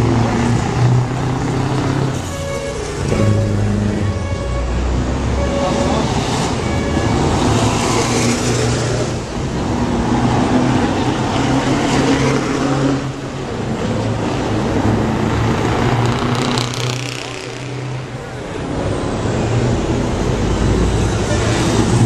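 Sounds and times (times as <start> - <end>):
trucks driving past: 0.0 - 22.0.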